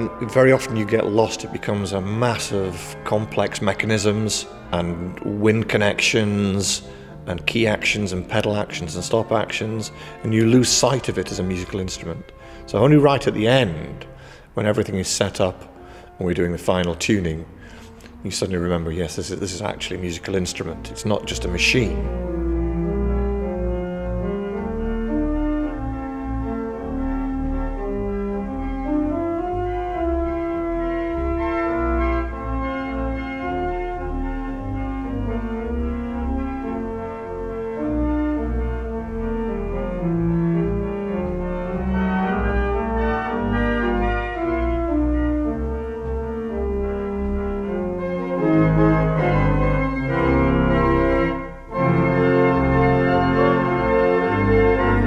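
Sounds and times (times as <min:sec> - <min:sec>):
pipe organ chords: 0:00.0 - 0:55.0.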